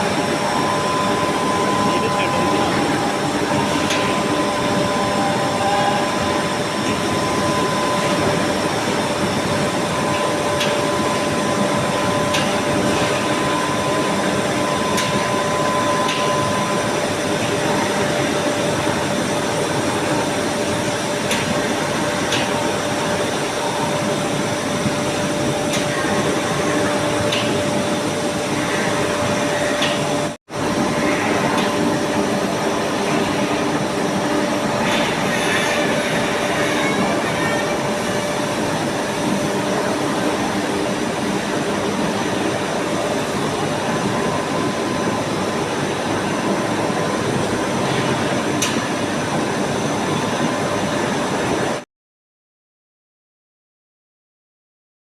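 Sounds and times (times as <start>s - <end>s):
industrial machinery hum: 0.0s - 51.8s.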